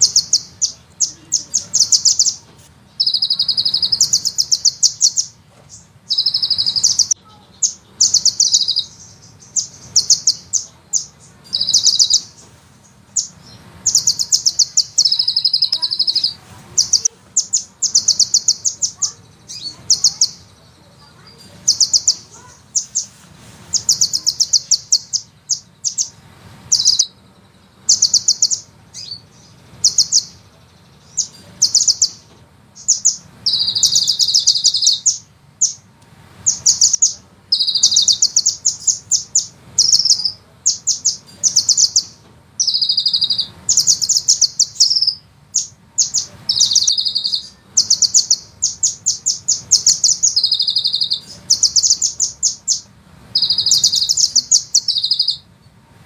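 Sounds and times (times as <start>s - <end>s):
bird trilling: 0.0s - 55.5s.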